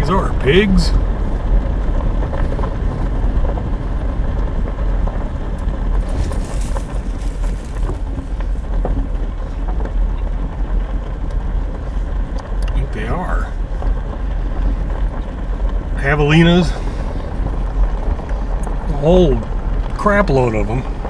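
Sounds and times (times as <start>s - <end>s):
truck engine and road rumble: 0.0s - 21.0s.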